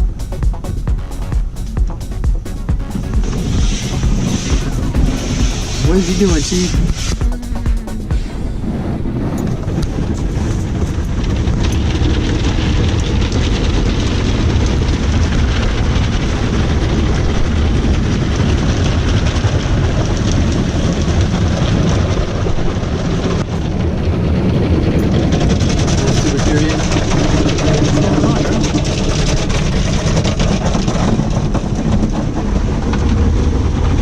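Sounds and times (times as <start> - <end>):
car wash machinery: 0.0 - 34.0
rush of water: 3.1 - 33.6.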